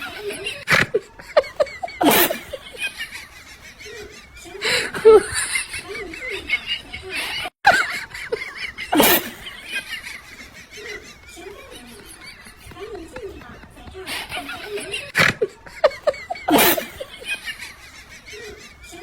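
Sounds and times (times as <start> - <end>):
people laughing: 0.0 - 19.0
people talking: 0.0 - 19.0.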